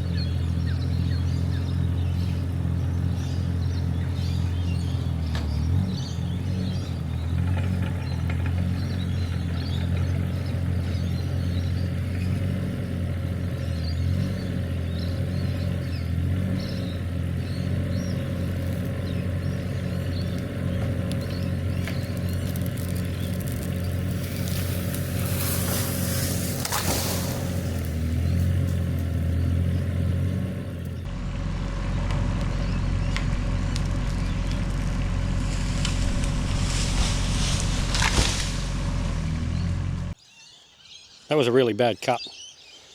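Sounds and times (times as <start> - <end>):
birds chirping: 0.0 - 31.1, 31.8 - 42.9
engine running at low revs: 0.0 - 40.2.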